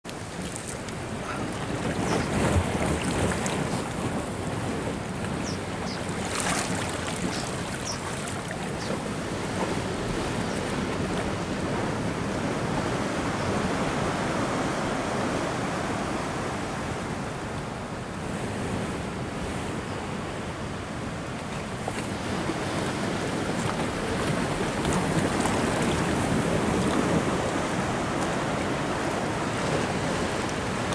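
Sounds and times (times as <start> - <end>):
sea waves washing: 0.1 - 30.9.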